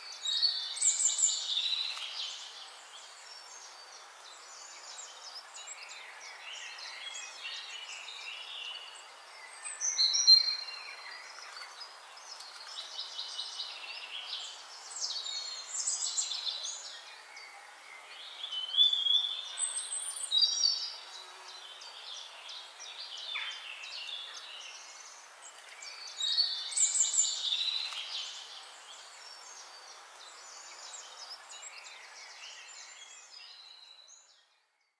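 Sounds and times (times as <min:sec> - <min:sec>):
birds chirping and singing: 0:00.0 - 0:34.9
steady outdoor hiss: 0:00.0 - 0:34.9.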